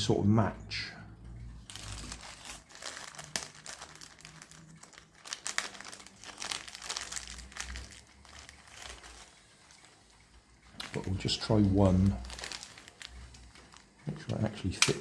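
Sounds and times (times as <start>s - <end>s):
plastic packet crinkling: 1.6s - 15.0s.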